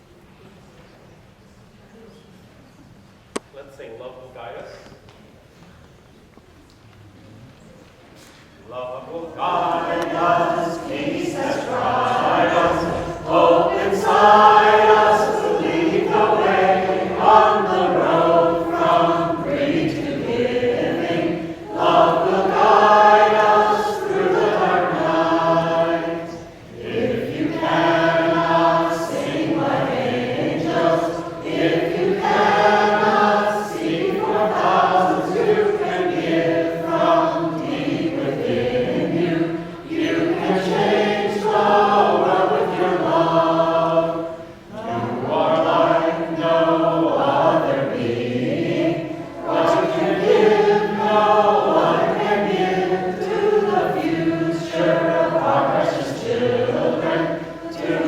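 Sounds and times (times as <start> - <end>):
vocal group singing in harmony: 8.7 - 58.0.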